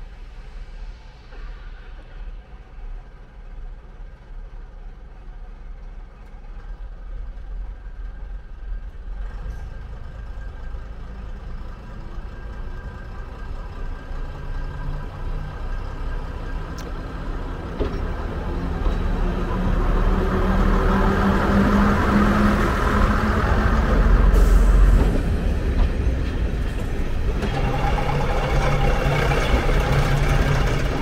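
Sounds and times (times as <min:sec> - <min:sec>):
train engines running: 0:00.0 - 0:31.0.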